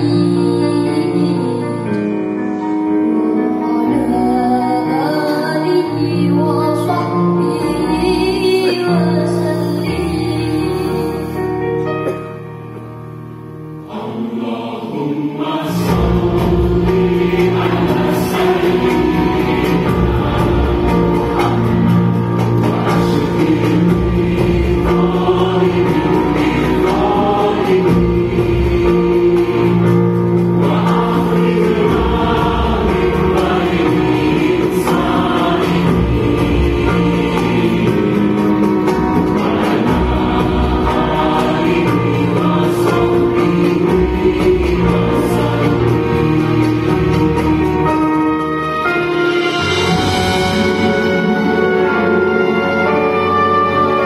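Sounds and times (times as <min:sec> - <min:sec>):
choir singing: 0:00.0 - 0:11.6, 0:13.8 - 0:54.0
orchestral music: 0:00.0 - 0:54.0.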